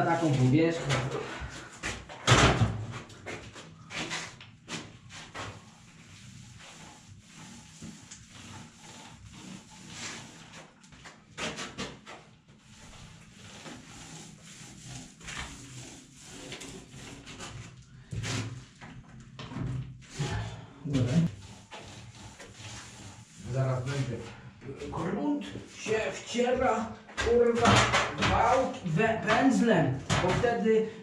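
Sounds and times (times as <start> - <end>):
paint roller swishing on plaster: 0.0 - 2.1, 3.0 - 27.7.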